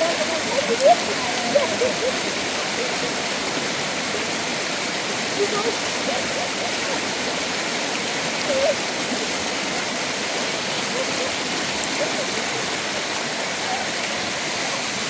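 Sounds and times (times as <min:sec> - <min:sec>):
faint voice-like sounds: 0:00.0 - 0:15.0
flowing water rushing: 0:00.0 - 0:15.0.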